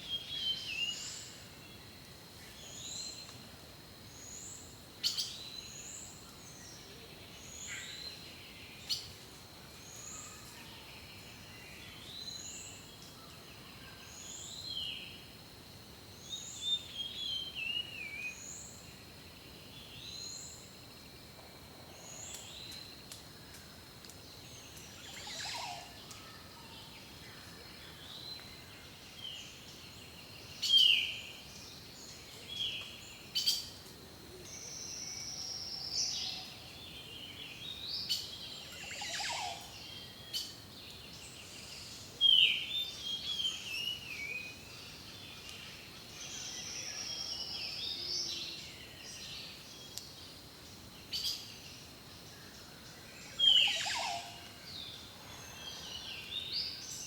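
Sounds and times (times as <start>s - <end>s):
soft background hiss: 0.0s - 57.0s
wild birds singing and calling: 4.1s - 15.3s, 21.7s - 57.0s.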